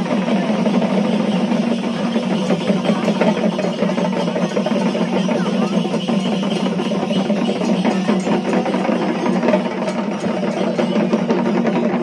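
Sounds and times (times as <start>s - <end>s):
drums playing fast rhythm: 0.0s - 12.0s.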